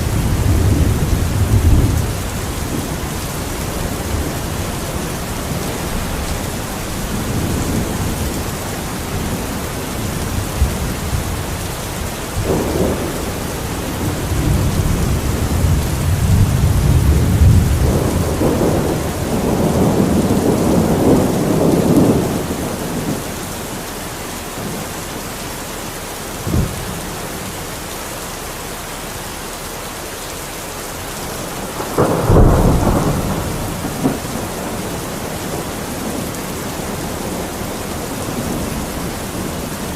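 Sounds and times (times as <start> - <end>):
thunder rumbling and cracking: 0.0 - 23.9, 26.3 - 27.5, 31.2 - 39.9
heavy rain: 0.0 - 39.9.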